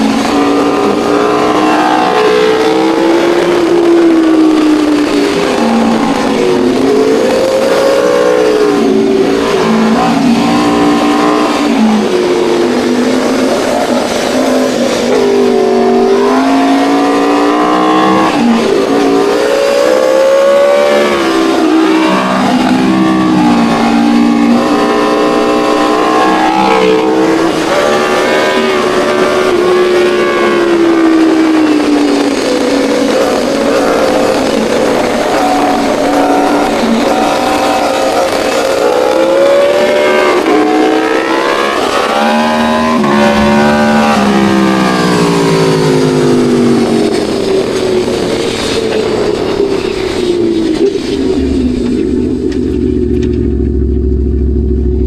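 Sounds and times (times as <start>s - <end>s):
motorcycle engines at high revs: 0.0s - 55.0s.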